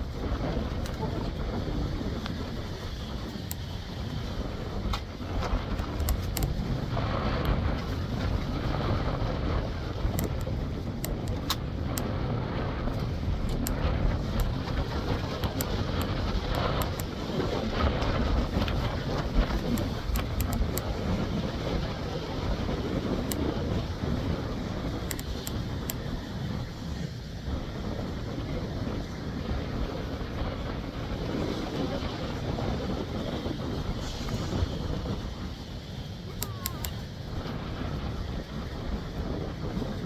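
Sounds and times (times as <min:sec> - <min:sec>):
ocean surf on rocks: 0:00.0 - 0:40.0
wind buffeting microphone: 0:00.0 - 0:40.0.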